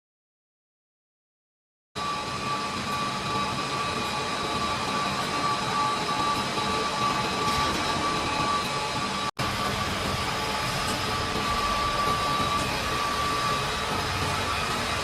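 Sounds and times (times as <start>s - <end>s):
machine whining tones: 2.0s - 15.0s
production-line machinery running: 2.0s - 15.0s.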